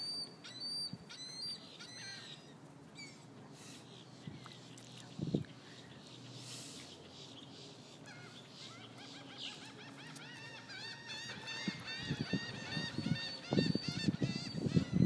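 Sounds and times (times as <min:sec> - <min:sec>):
many birds calling: 0:00.4 - 0:15.0.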